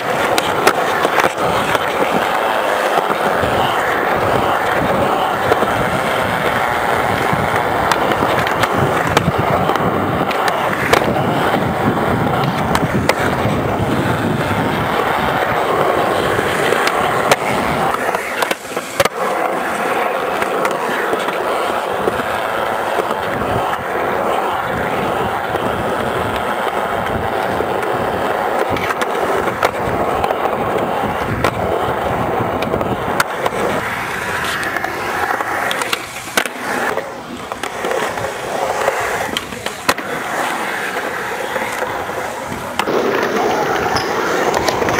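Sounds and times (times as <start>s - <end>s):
skateboard clacks: 0.0s - 44.9s
skateboard wheels rolling on concrete: 0.0s - 44.9s.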